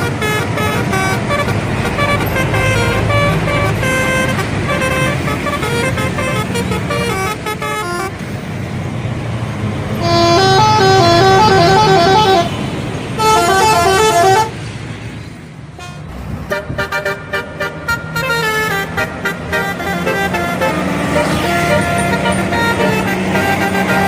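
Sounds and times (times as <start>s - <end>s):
musical air horn: 0.0s - 8.2s, 10.0s - 12.6s, 13.2s - 14.6s, 15.8s - 24.0s
bus engine hum: 0.0s - 24.0s.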